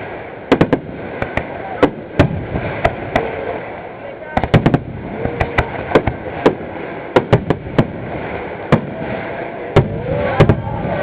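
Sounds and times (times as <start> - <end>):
fireworks cracking: 0.0 - 11.0.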